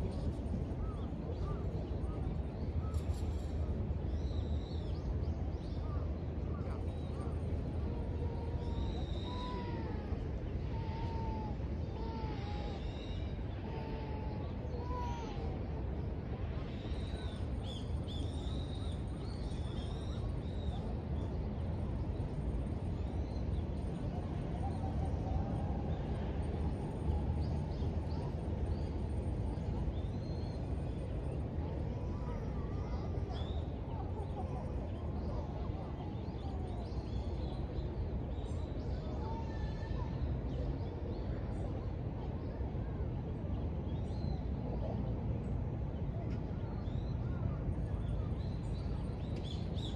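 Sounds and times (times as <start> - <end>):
low background rumble: 0.0 - 49.9.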